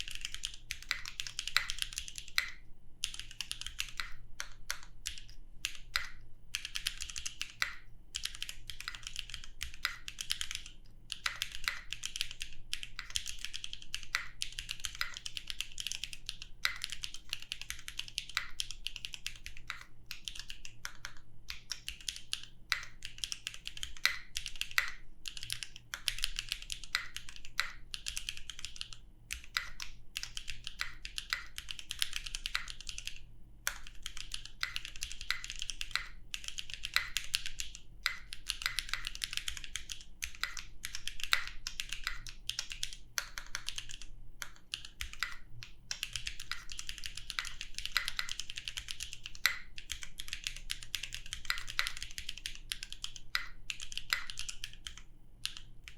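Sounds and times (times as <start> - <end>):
fast mechanical keyboard typing: 0.0 - 55.9.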